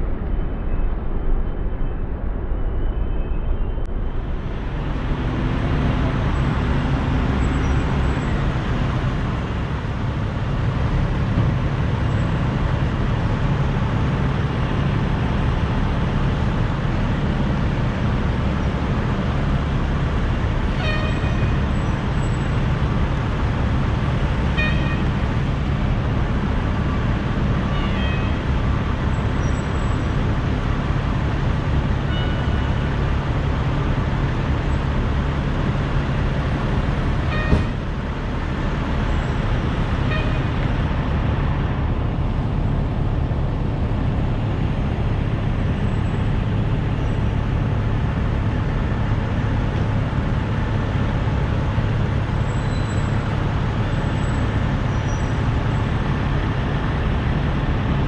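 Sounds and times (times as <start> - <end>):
idling vehicles humming: 3.8 - 58.0.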